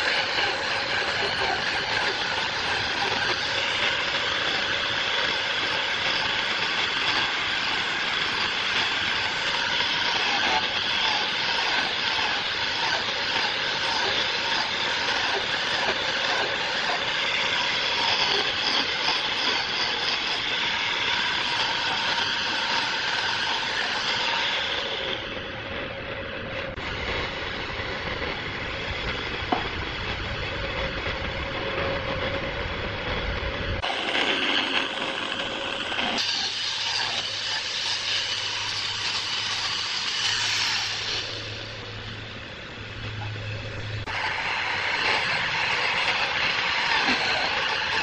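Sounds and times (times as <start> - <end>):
woodworking machinery running: 0.0 - 48.0.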